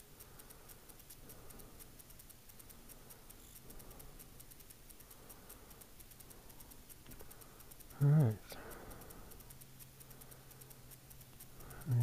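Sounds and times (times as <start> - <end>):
faint high ticking: 0.0 - 12.0.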